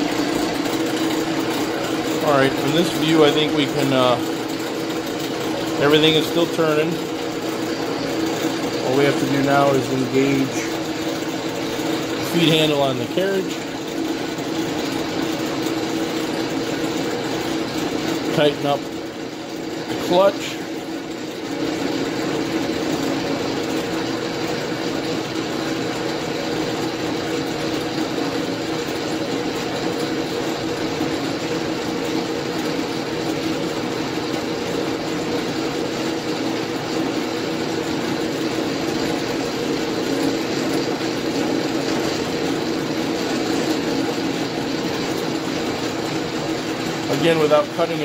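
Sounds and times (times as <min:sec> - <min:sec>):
metal lathe whirring: 0:00.0 - 0:48.0.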